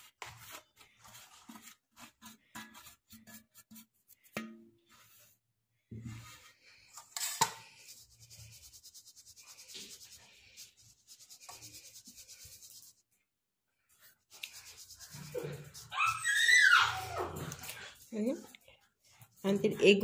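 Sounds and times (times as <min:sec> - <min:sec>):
dough rubbing against wire mesh: 0:00.0 - 0:05.4, 0:07.6 - 0:13.2, 0:13.8 - 0:20.0.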